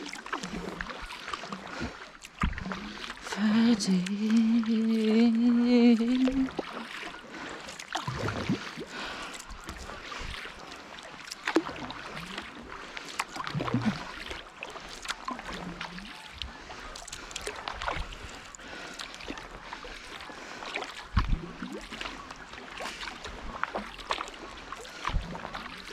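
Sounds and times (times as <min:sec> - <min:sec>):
paddle splashing in water: 0:00.0 - 0:25.9
water trickling and gurgling: 0:00.0 - 0:25.9.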